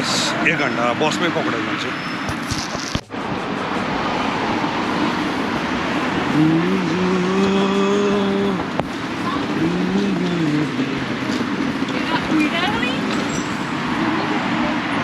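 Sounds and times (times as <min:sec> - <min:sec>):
road traffic noise: 0:00.0 - 0:15.0
vehicle engine revving: 0:02.2 - 0:15.0.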